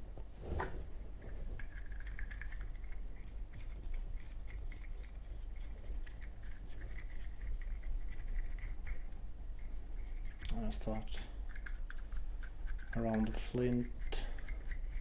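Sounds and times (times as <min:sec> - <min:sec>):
cotton swab scrubbing metal: 0:00.6 - 0:15.0.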